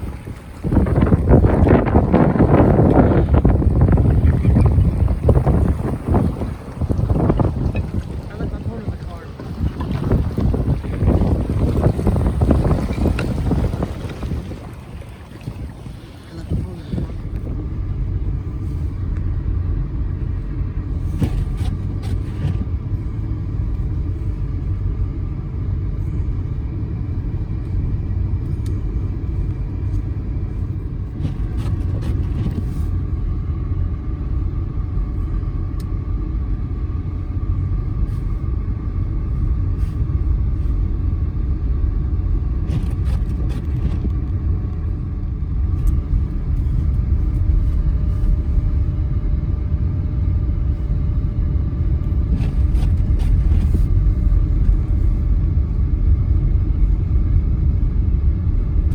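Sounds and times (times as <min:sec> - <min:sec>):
car cabin engine and tyre rumble: 0:00.0 - 0:58.9.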